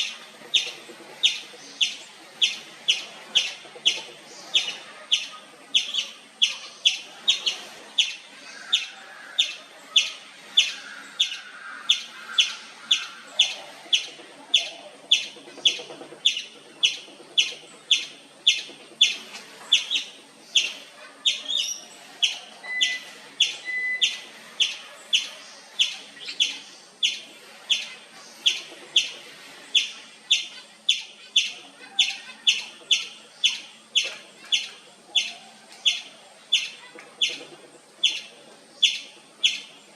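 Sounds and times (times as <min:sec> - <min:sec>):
squirrel chirping: 0:00.0 - 0:39.8.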